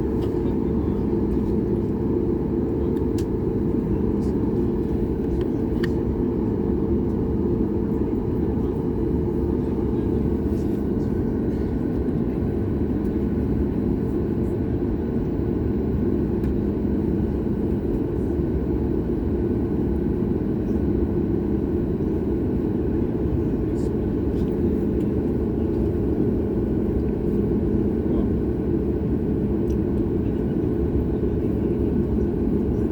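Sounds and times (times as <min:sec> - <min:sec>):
aircraft cabin engine drone: 0:00.0 - 0:32.9.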